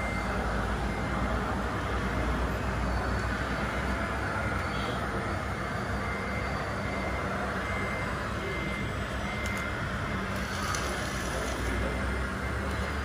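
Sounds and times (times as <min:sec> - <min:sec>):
reversing beeper: 0:00.0 - 0:13.0.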